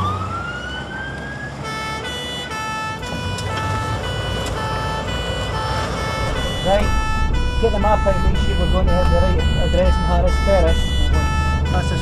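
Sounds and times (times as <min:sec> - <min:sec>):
fire engine siren: 0:00.0 - 0:12.0
low engine rumble: 0:00.3 - 0:12.0.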